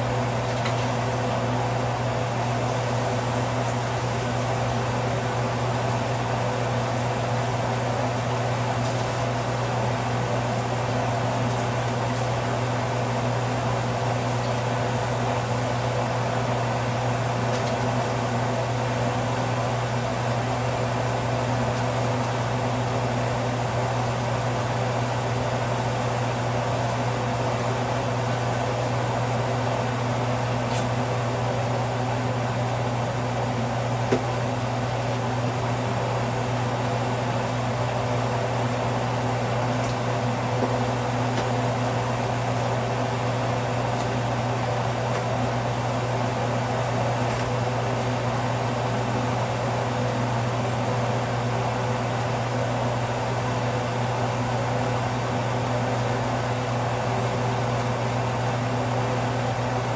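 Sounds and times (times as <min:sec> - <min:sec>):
fan humming: 0:00.0 - 0:59.9.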